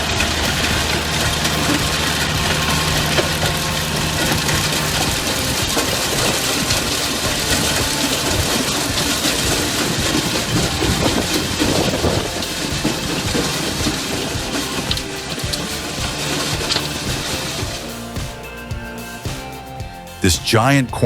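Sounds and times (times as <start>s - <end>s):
farm machinery engine: 0.0s - 18.4s
dense irregular rattling: 0.0s - 18.5s.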